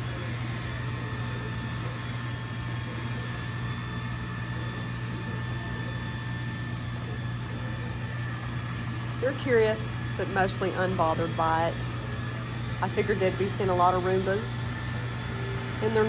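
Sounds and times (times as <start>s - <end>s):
robot vacuum motor hum: 0.0s - 16.0s
thin high whine: 0.0s - 16.0s.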